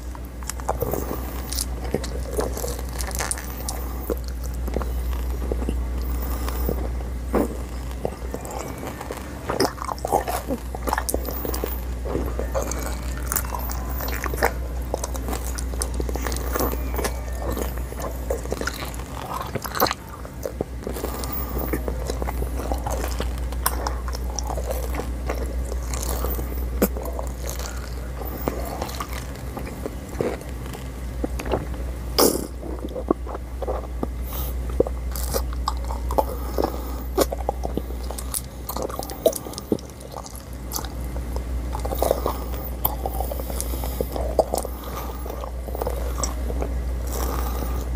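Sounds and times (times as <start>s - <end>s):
crunching gum pellets: 0.0s - 47.9s
low hum: 0.0s - 47.9s
wet chewing: 0.0s - 47.9s.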